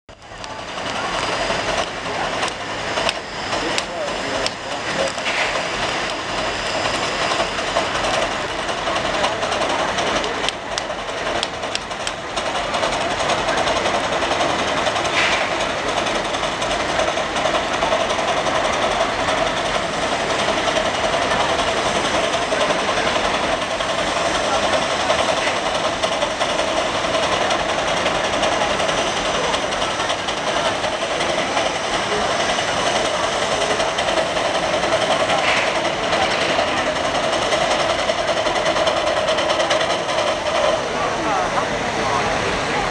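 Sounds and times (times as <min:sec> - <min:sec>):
steam engine exhaust chuffing: 0:00.1 - 0:42.9.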